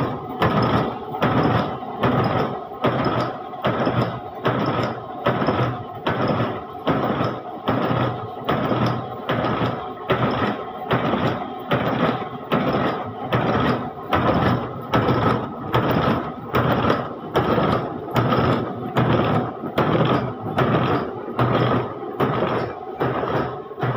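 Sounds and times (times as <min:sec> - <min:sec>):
machine clattering rhythmically: 0:00.0 - 0:23.9.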